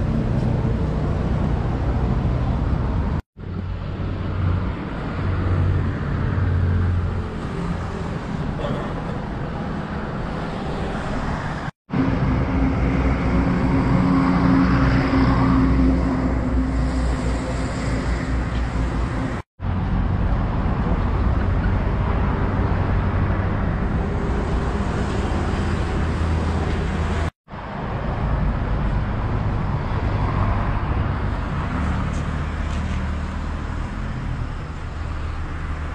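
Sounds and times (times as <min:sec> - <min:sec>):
rumble of passing vehicles: 0:00.0 - 0:35.9.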